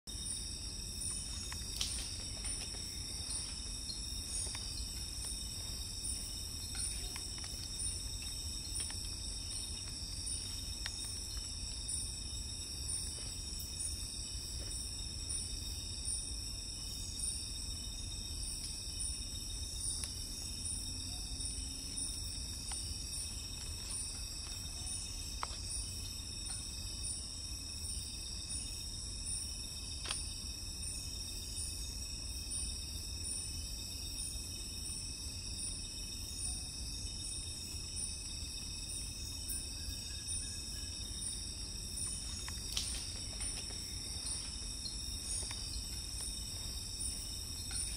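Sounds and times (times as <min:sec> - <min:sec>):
insects trilling: 0:00.0 - 0:47.9
insect pulsing: 0:00.1 - 0:35.0, 0:35.6 - 0:47.9.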